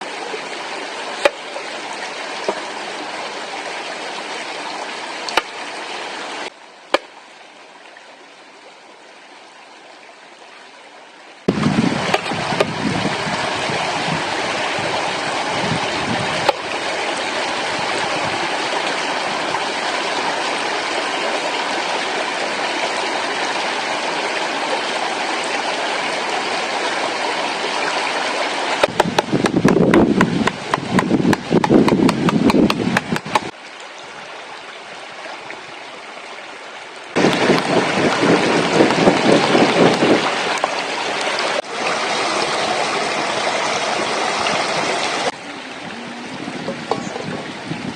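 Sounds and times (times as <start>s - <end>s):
stream flowing: 0.0s - 47.9s.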